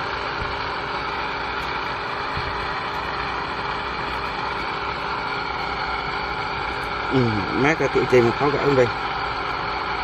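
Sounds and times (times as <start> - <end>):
water pump motor droning: 0.0 - 10.0.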